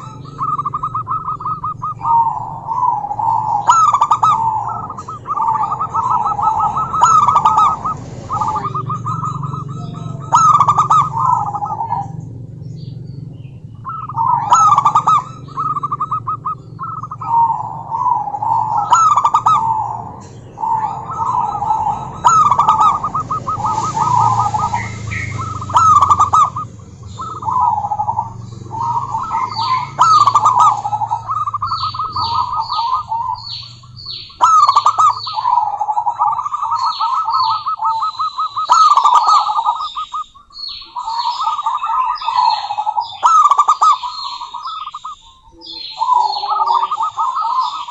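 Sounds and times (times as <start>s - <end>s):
dove cooing: 0.0s - 47.9s
high bird chirps: 0.0s - 47.9s.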